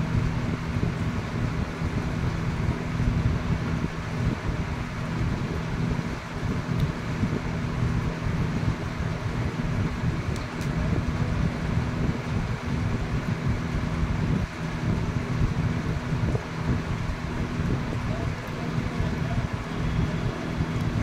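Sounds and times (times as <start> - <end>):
low hum: 0.0 - 21.0
low rumble: 0.0 - 21.0.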